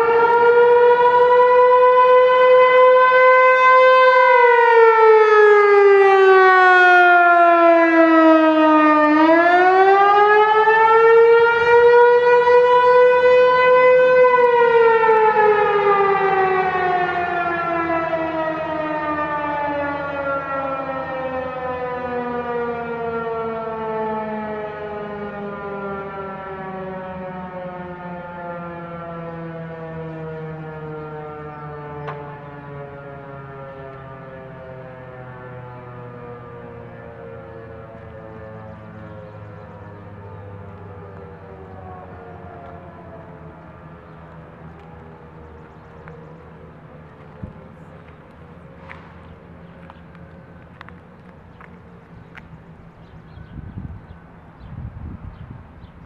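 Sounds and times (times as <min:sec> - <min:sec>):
warning siren wailing: 0:00.0 - 0:56.0.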